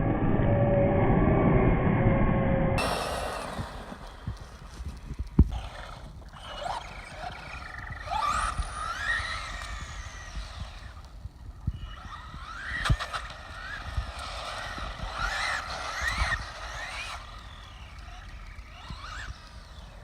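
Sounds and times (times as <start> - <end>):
electric motor whining: 2.8 - 20.0.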